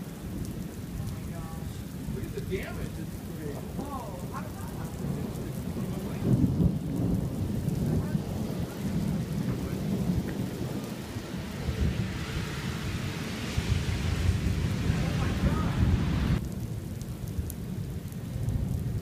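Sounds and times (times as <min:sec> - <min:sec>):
rain hissing: 0:00.0 - 0:19.0
thunder rumbling: 0:00.0 - 0:19.0.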